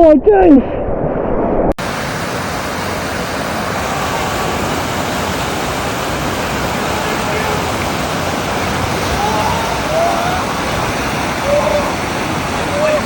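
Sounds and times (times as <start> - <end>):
water rushing through rapids: 1.8 - 13.0.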